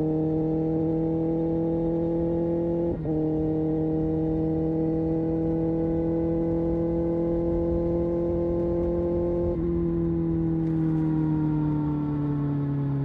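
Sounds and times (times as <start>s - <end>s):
motorcycle engine droning: 0.0s - 13.0s.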